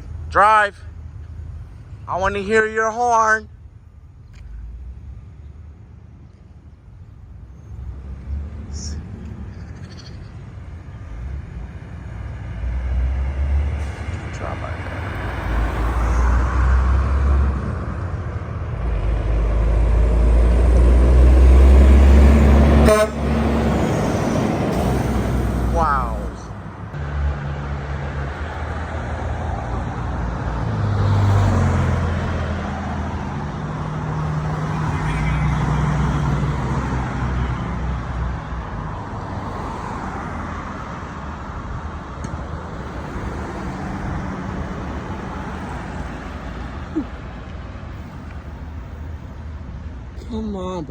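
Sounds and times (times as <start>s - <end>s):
heavy truck engine rumble: 0.0s - 50.9s
steady traffic noise: 0.0s - 50.9s.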